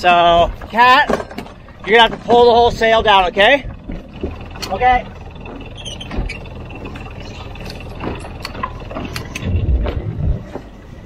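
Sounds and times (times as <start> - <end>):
deck hardware clicks and rattles: 0.0 - 11.0
sail thumping: 0.0 - 11.0
water: 0.0 - 11.0
wind rumble: 0.0 - 11.0.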